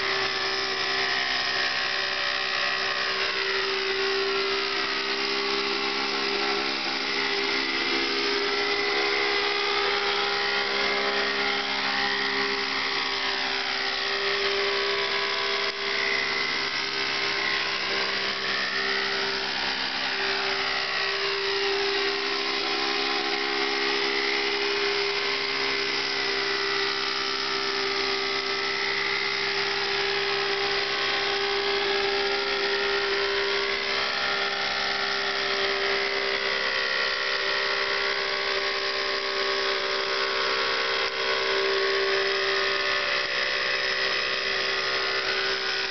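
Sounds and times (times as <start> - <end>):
model helicopter engine whine: 0.0 - 45.9.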